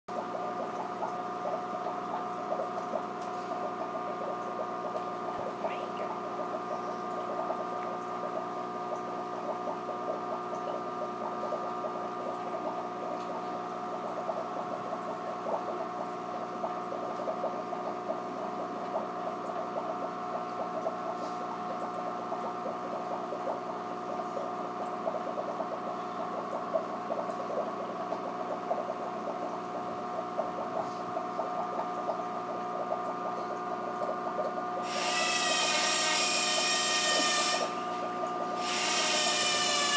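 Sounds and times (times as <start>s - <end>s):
aquarium equipment humming: 0.1s - 39.9s.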